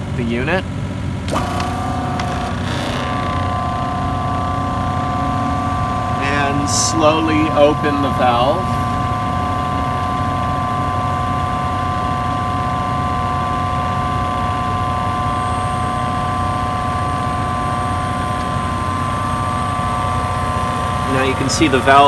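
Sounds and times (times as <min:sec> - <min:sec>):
watermaker pump humming: 0:00.8 - 0:22.0.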